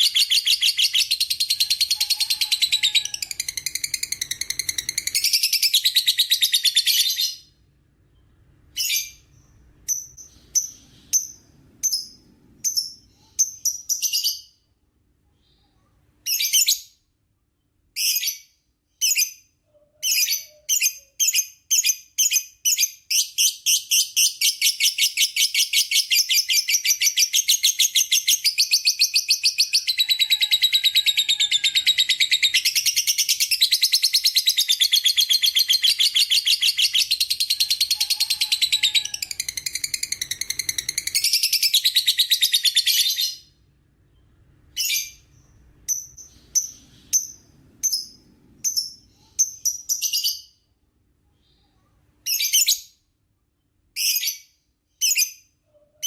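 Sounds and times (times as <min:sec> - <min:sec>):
lovebird chirps: 0:00.0 - 0:14.7, 0:17.9 - 0:50.7.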